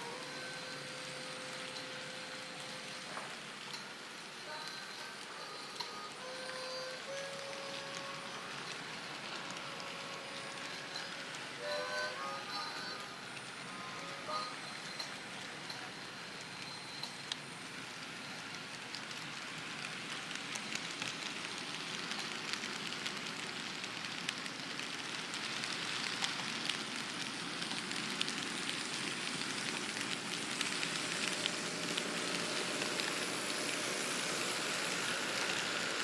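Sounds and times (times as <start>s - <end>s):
model train wheels and motor: 0.0s - 36.0s.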